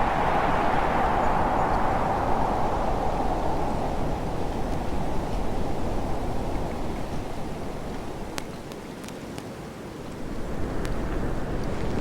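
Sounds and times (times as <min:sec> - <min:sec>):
blizzard wind rushing: 0:00.0 - 0:08.9, 0:10.0 - 0:12.0.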